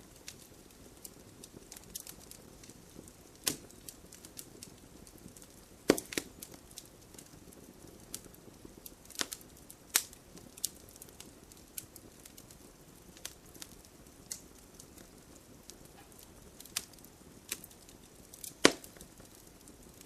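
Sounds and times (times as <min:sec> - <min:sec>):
campfire wood crackling: 0:00.0 - 0:20.0.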